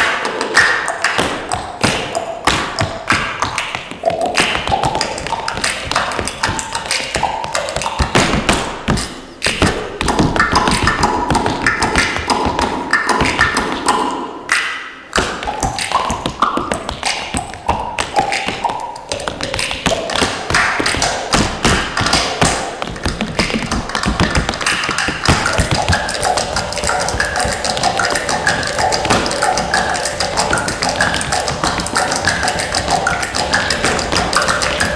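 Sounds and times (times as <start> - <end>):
tap shoes on stage floor: 0.0 - 14.0, 15.2 - 34.9
accompanying music: 0.0 - 34.9.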